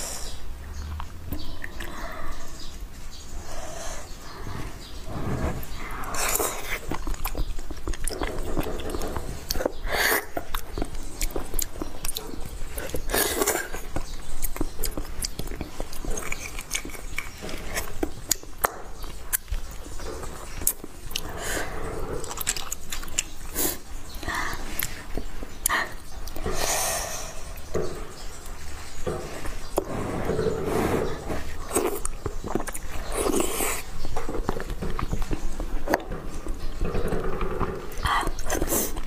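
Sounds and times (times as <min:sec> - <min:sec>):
slurping: 0:00.0 - 0:39.0
wet chewing with mouth clicks: 0:00.0 - 0:39.0.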